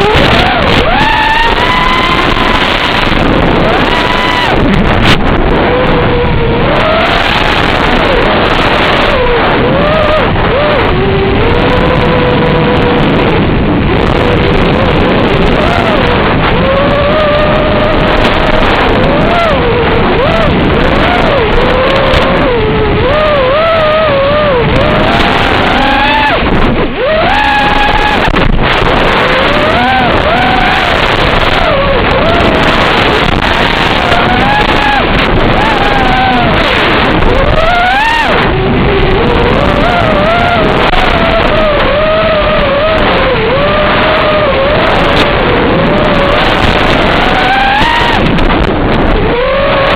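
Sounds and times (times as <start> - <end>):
quadcopter motors whining: 0.0 - 49.9
strong wind rushing: 0.0 - 49.9.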